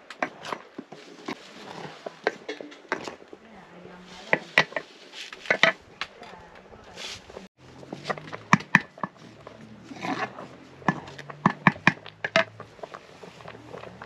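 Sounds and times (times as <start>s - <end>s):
wooden spoon scraping metal pot: 0.0s - 14.0s.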